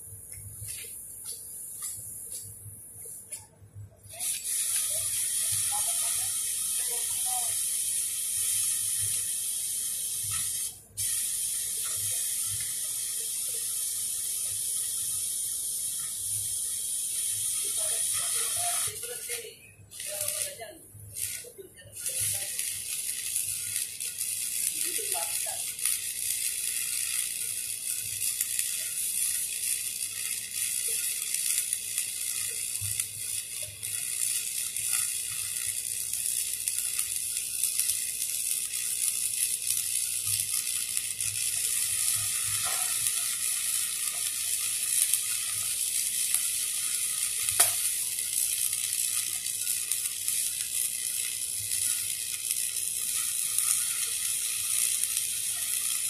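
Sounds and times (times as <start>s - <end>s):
welding arc sizzling: 0.0s - 56.0s.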